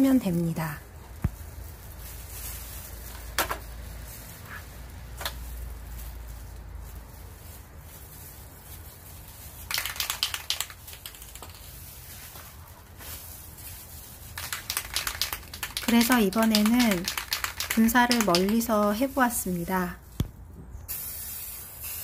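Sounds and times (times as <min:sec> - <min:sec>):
rapid crackles: 0:00.0 - 0:19.7.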